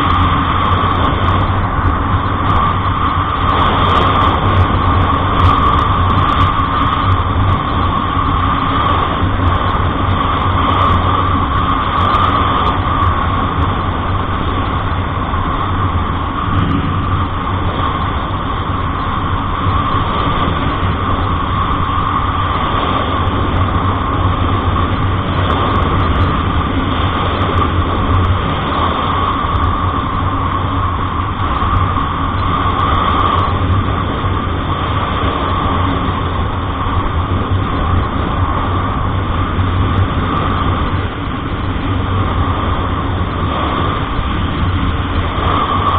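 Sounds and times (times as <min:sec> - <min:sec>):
vehicle engine and road noise: 0:00.0 - 0:45.9.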